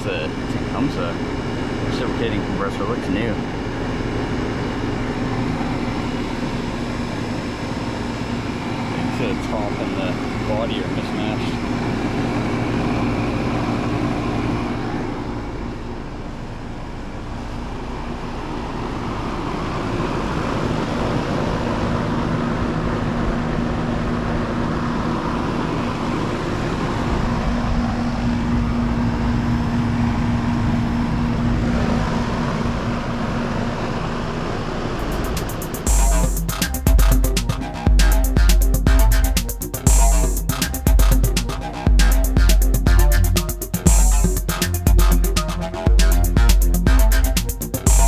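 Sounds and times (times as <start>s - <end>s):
air conditioner motor hum: 0.0s - 48.0s
condenser fan air rushing: 0.0s - 48.0s.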